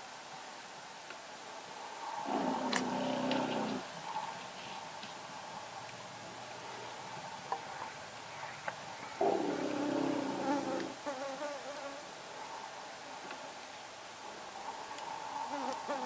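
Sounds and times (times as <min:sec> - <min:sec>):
insects buzzing drone: 0:01.8 - 0:12.9, 0:14.1 - 0:16.0.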